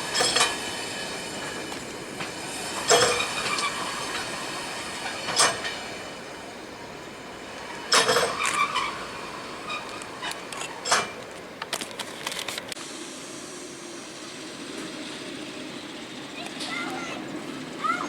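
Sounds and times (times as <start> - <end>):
railway carriage clank: 0.0 - 12.7, 14.6 - 18.0.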